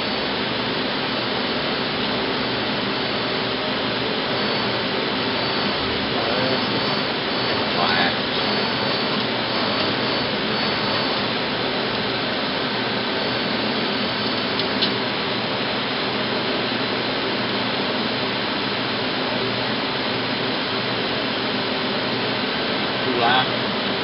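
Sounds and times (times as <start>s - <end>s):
faint hum: 0.0s - 24.0s
lathe machine whir: 0.0s - 24.0s.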